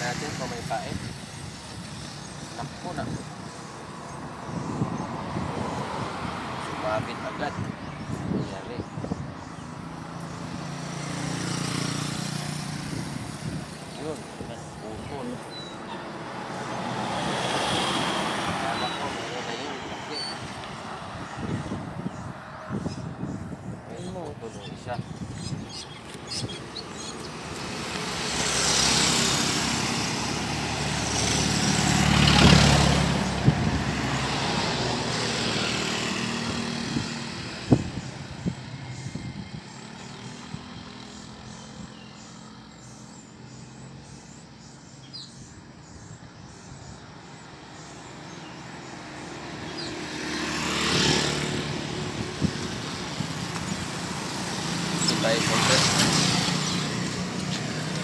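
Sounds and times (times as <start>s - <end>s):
vehicles passing: 0.0s - 58.0s.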